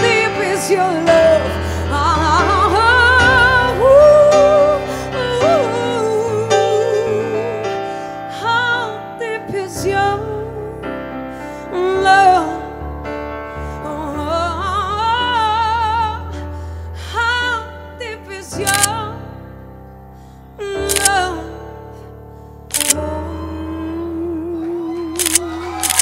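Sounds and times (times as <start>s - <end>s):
woman singing a ballad: 0.0s - 19.6s, 20.4s - 22.1s, 22.9s - 25.9s.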